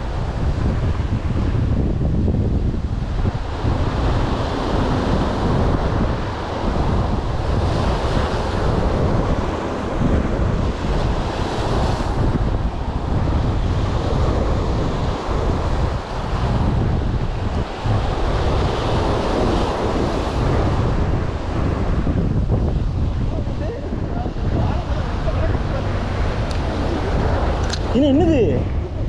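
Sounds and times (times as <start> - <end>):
sea waves washing on shore: 0.0 - 29.0
wind buffeting microphone: 0.0 - 29.0.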